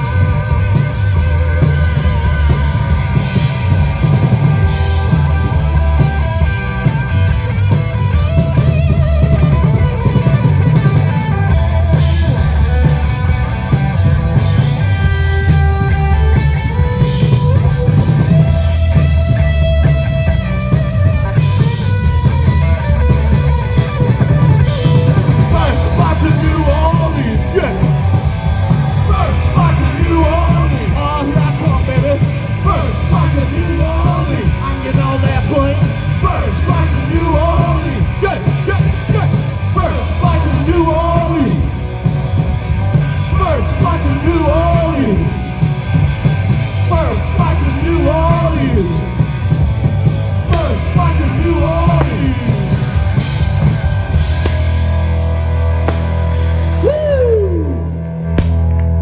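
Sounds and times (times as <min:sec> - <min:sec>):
distorted electric guitar: 0:00.0 - 0:59.0
heavy bass: 0:00.0 - 0:59.0
pounding drum kit: 0:00.0 - 0:59.0.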